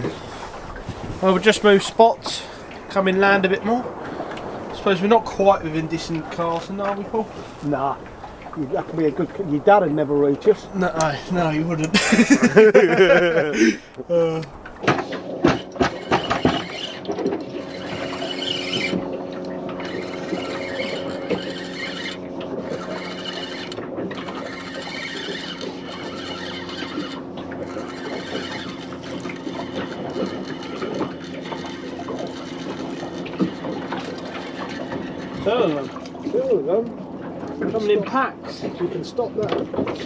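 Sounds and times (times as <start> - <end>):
boat engine running: 0.0 - 40.0
water splashing against hull: 0.0 - 40.0.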